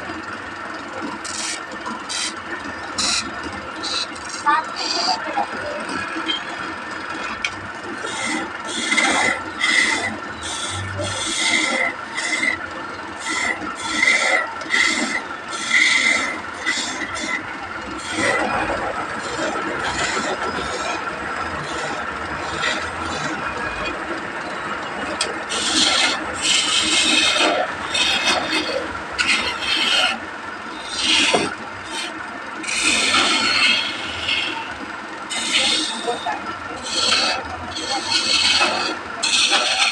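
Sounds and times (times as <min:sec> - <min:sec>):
steady machine hum: 0:00.0 - 0:39.9
machine rasping wood: 0:01.0 - 0:06.3, 0:07.2 - 0:39.9.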